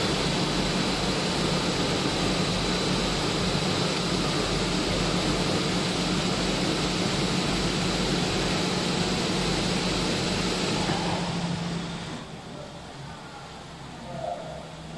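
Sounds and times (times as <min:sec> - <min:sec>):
machine hum with hiss: 0:00.0 - 0:14.9.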